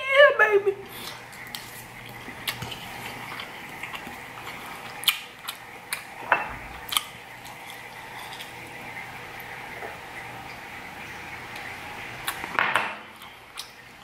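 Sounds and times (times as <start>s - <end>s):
person chewing food: 0.8s - 10.6s, 11.5s - 14.0s.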